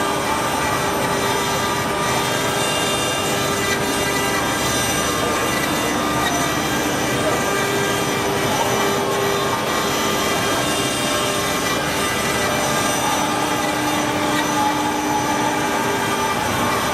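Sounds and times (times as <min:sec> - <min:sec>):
router spindle whine: 0:00.0 - 0:16.9
bit grinding stone: 0:00.7 - 0:16.9.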